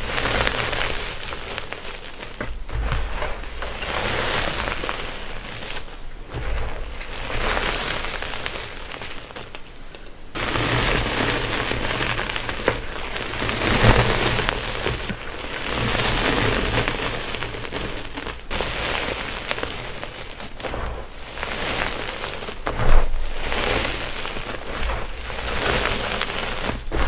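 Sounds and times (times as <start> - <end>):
chalk crushed by hand: 0.0 - 27.0.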